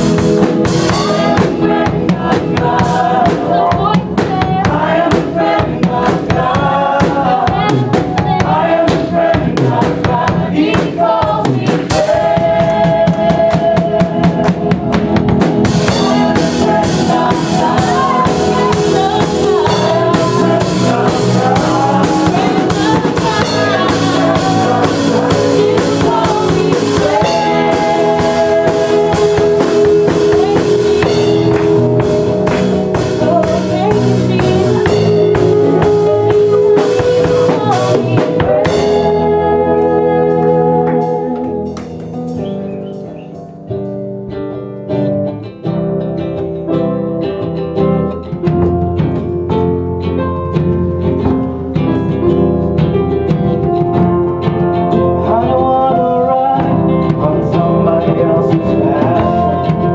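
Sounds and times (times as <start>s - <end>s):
person singing: 0.0s - 15.0s, 15.7s - 43.6s, 53.9s - 59.9s
drum kit beat: 0.0s - 45.2s, 45.8s - 59.9s
live band playing: 0.0s - 59.9s.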